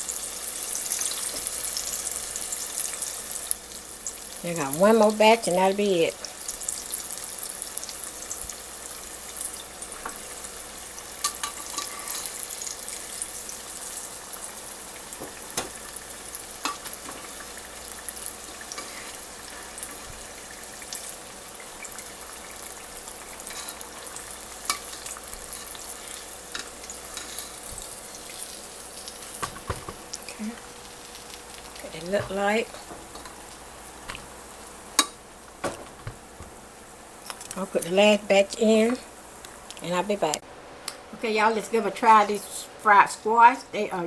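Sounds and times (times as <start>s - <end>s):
food deep-frying in oil: 0.0s - 40.4s.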